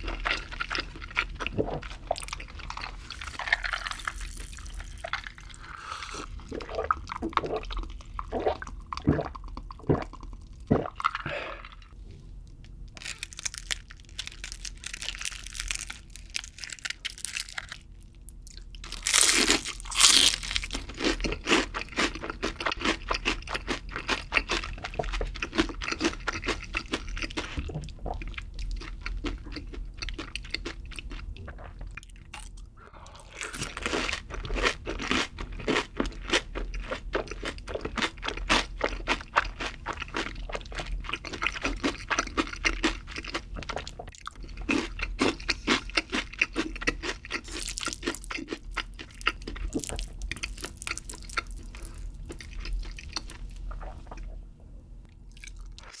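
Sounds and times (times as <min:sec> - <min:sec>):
crunchy chewing of fried chicken: 0:00.0 - 0:08.6, 0:13.0 - 0:54.3, 0:55.3 - 0:56.0.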